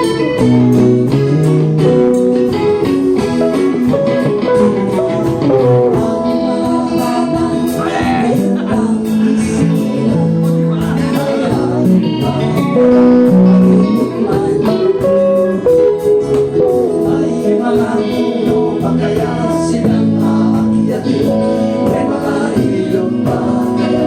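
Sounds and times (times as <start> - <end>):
sustained melody line: 0.0 - 24.0.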